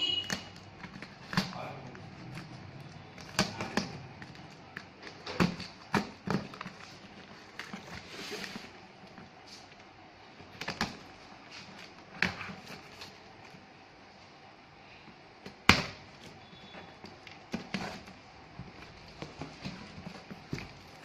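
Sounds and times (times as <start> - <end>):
cardboard parcel handling: 0.2 - 13.8, 15.4 - 21.0.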